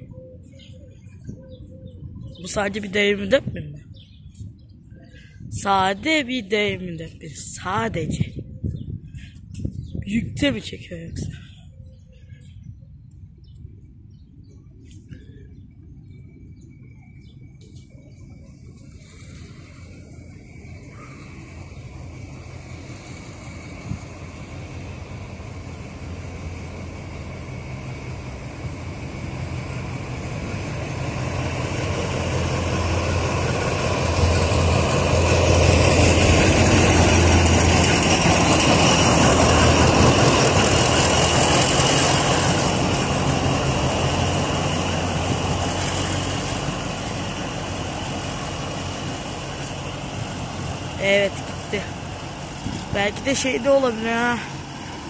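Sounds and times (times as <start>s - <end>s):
locomotive engine hum: 0.0s - 55.0s
rumble of train wagons: 0.0s - 55.0s.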